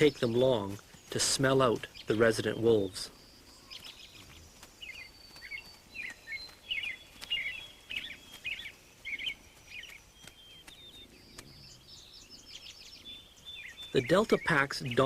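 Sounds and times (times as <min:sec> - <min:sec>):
small songbirds chirping: 0:00.0 - 0:15.0
thin whistled bird notes: 0:00.0 - 0:15.0.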